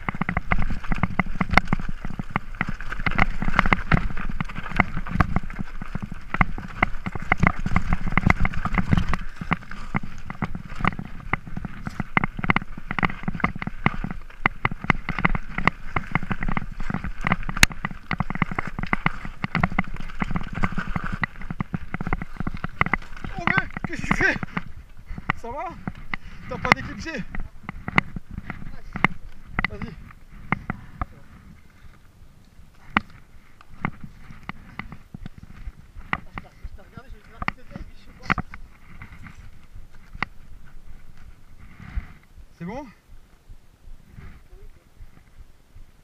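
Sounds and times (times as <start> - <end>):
bike rattling over stones: 0.0 - 46.0
low rumble of vibration: 0.0 - 46.0.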